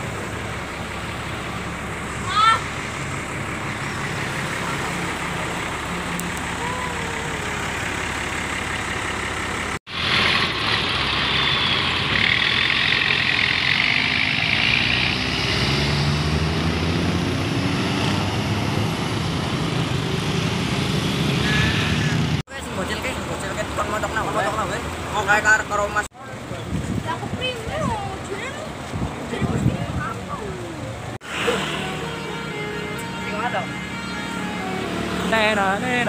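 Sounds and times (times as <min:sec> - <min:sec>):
bus driving past: 0:00.0 - 0:25.7, 0:30.6 - 0:36.0
bus diesel engine running: 0:00.0 - 0:36.0
road traffic: 0:00.0 - 0:36.0.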